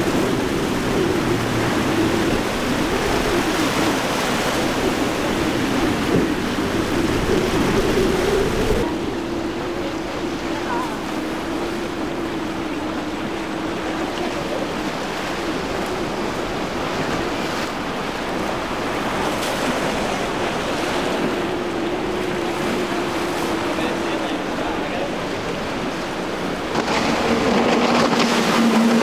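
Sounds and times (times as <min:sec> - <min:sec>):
outboard motors droning: 0:00.0 - 0:29.0
waves and spray on hull: 0:00.0 - 0:29.0.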